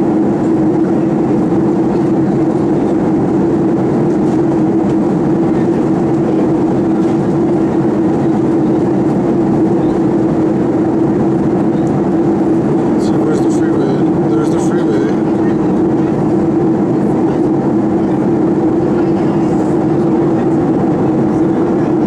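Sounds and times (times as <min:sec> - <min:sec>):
jet cabin engine rush: 0:00.0 - 0:22.0.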